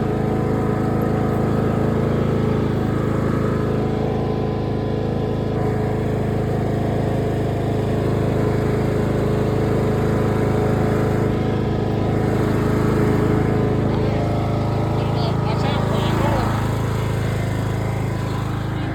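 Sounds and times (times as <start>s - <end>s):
lawn mower engine running: 0.0s - 18.9s.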